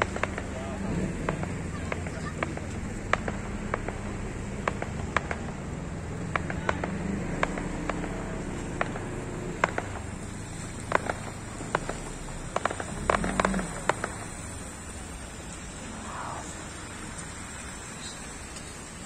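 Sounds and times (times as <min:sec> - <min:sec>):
fireworks popping and banging: 0:00.0 - 0:19.0
heavy rain hissing: 0:00.0 - 0:19.0.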